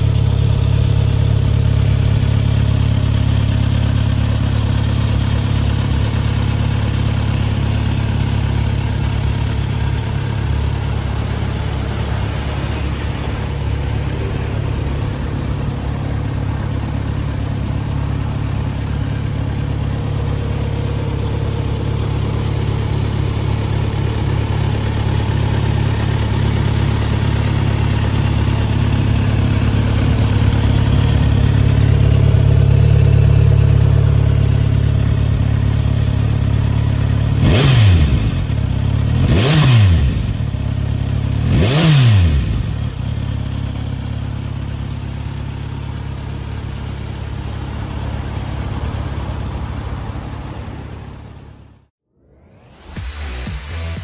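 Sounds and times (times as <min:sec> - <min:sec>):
motorcycle engine revving: 0:00.0 - 0:51.4
motorcycle engine idling: 0:00.0 - 0:51.9.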